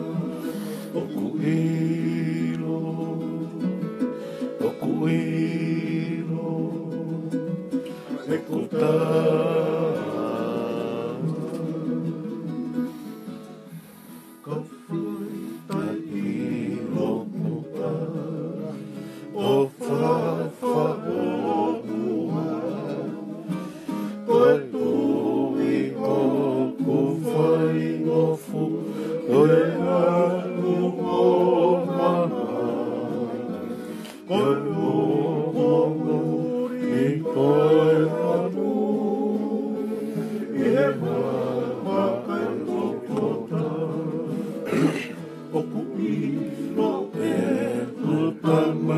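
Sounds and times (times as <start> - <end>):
men singing together: 0.0 - 13.1, 14.4 - 48.9
acoustic guitar: 0.0 - 48.9.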